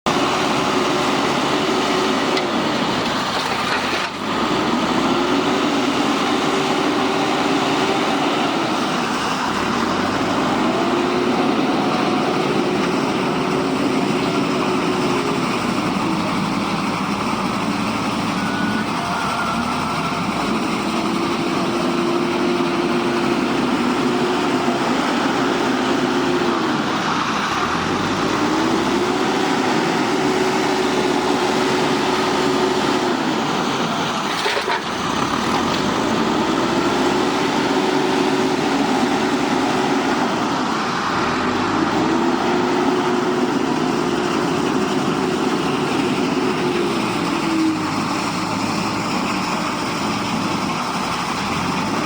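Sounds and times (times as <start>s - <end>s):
diesel engine revving under load: 0.0s - 52.0s.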